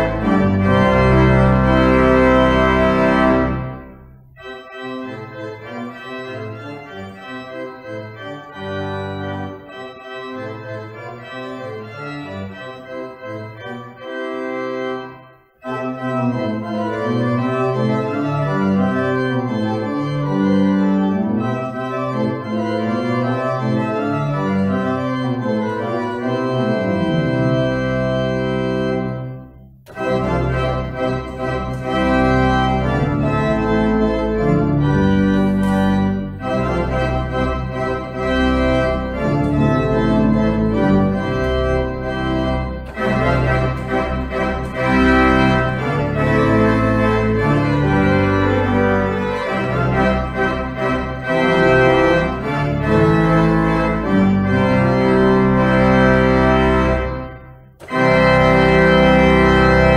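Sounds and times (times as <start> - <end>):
church organ playing: 0.0 - 59.9.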